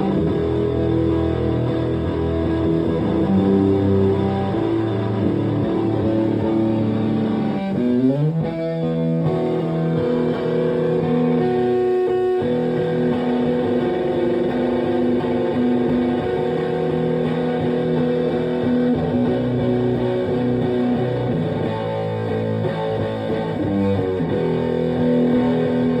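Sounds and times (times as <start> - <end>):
fuzzy electric guitar: 0.0 - 26.0.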